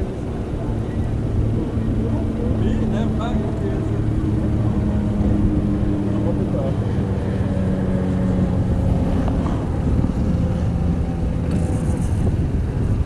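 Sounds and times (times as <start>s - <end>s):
outboard motors droning: 0.0s - 13.0s.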